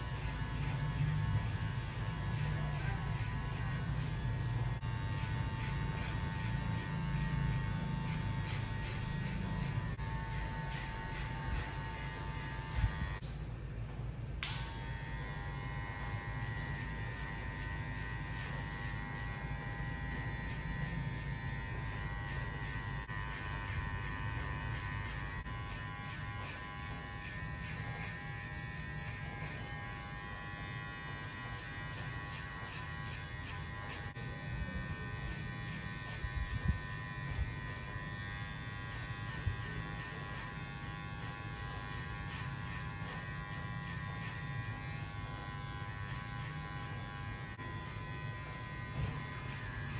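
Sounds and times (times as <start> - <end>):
electric hair clipper buzzing: 0.0 - 13.3, 14.4 - 49.9.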